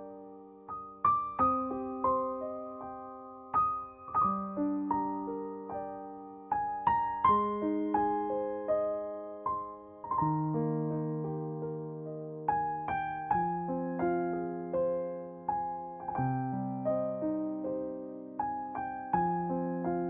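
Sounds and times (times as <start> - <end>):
slow soft piano music: 0.0 - 20.0.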